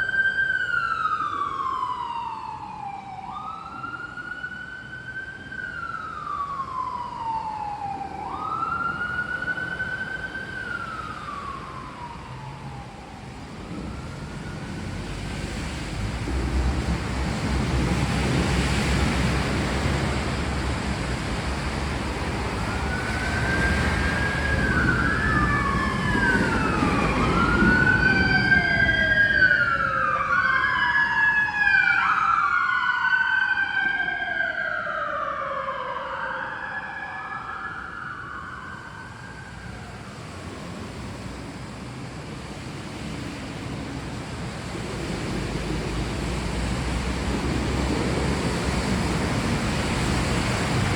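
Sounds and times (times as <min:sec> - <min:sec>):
sirens wailing: 0:00.0 - 0:50.9.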